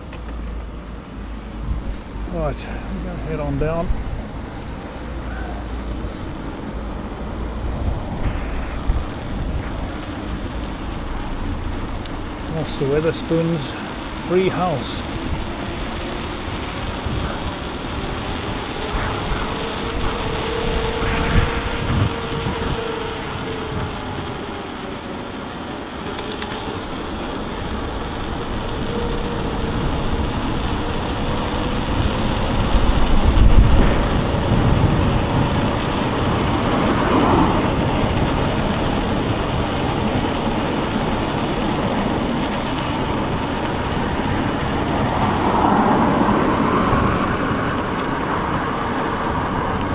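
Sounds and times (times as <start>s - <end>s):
passing cars: 0.0s - 49.9s.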